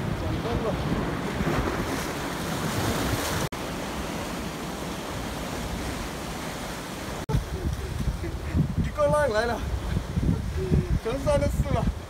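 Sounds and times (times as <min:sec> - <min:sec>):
wind buffeting microphone: 0:00.0 - 0:03.5, 0:04.3 - 0:12.0
surf washing over rocks: 0:00.0 - 0:12.0.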